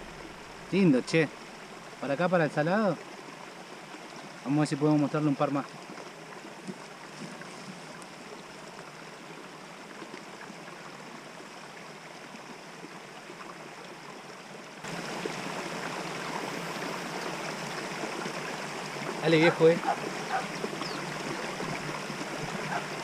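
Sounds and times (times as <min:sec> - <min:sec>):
small waves lapping shore: 0:00.0 - 0:23.0
wind: 0:00.0 - 0:23.0.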